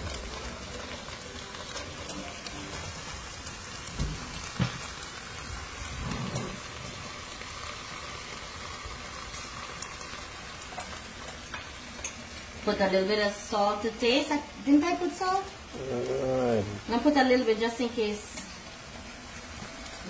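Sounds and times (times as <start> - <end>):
shrimp sizzling in a pan: 0.0 - 20.0.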